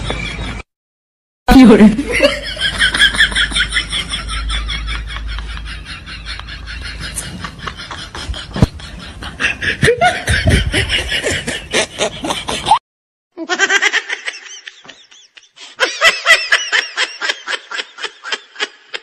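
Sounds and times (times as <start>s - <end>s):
laughter in ha-ha pulses: 1.8s - 12.8s, 13.4s - 19.0s.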